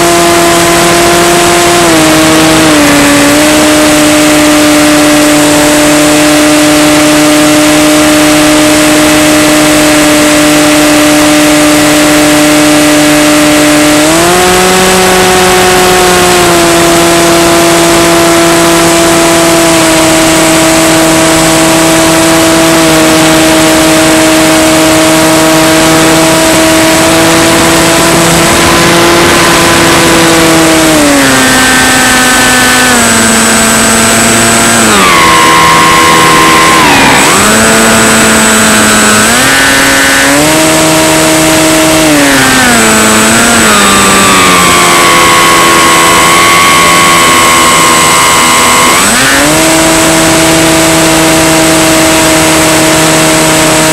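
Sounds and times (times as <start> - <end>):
model plane motor whine: 0.0 - 53.9.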